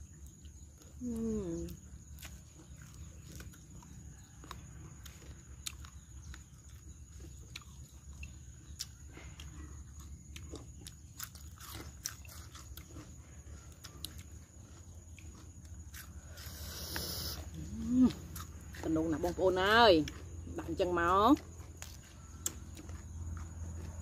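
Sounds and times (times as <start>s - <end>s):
people chewing crunchy food: 0.0s - 24.0s.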